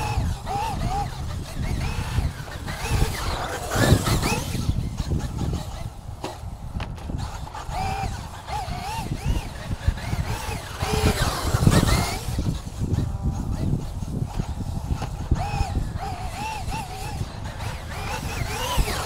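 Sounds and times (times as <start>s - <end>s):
rc truck motor whining: 0.0s - 19.0s
wind buffeting microphone: 0.0s - 19.0s.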